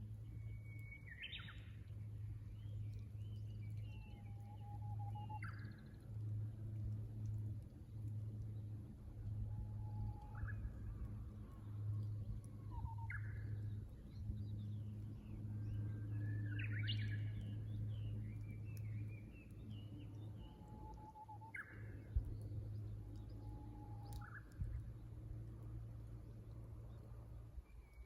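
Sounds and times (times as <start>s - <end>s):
bush warbler song: 0.0s - 6.4s, 9.9s - 28.0s.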